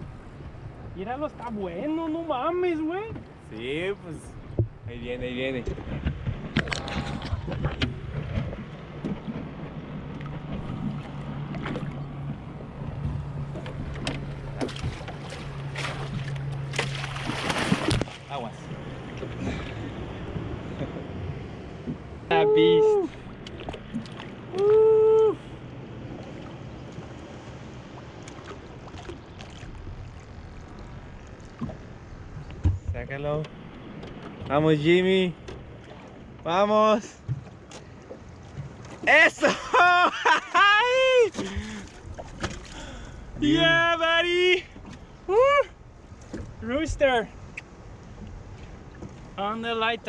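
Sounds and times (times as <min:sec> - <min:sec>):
boat motor humming: 0:00.0 - 0:50.0
water noise: 0:00.0 - 0:50.0
wind: 0:00.0 - 0:50.0.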